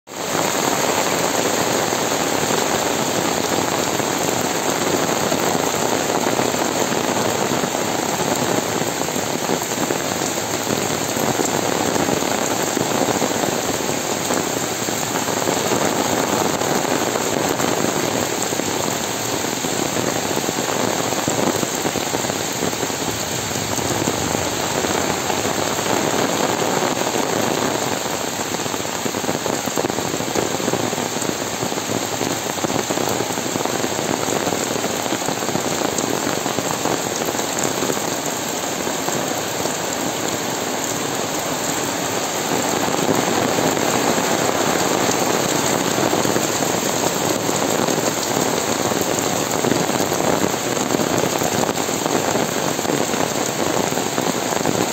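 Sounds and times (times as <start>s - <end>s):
heavy rain falling: 0.1s - 54.9s.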